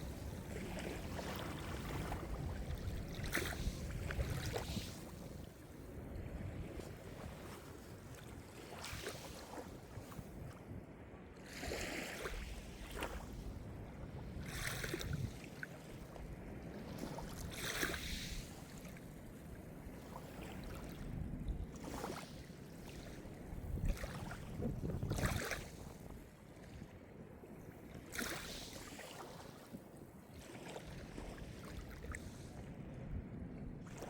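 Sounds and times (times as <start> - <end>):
low rumble of the sea: 0.0 - 34.0
small waves breaking ashore: 0.0 - 34.0.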